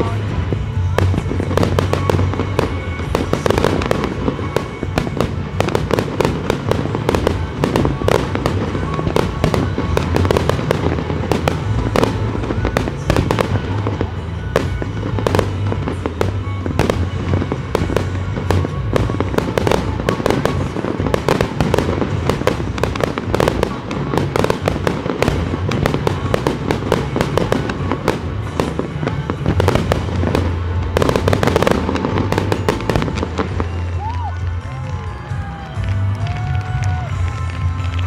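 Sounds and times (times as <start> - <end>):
fireworks bursting and crackling: 0.0 - 38.0
music playing: 0.0 - 38.0.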